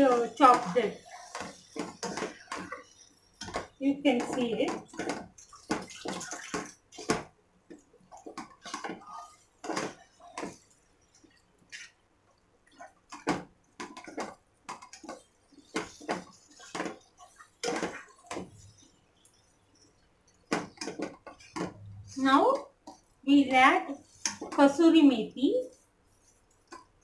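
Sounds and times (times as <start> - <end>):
spatula scraping in a pot: 0.0 - 7.2, 7.8 - 12.0, 12.6 - 27.0.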